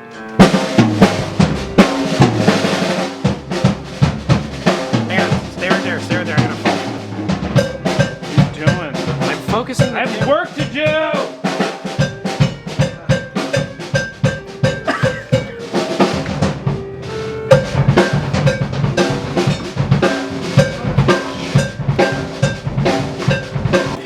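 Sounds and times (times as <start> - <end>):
held instrument notes: 0.0 - 24.0
rock music: 0.0 - 24.0
rapid snare and bass drum hits: 0.4 - 24.0.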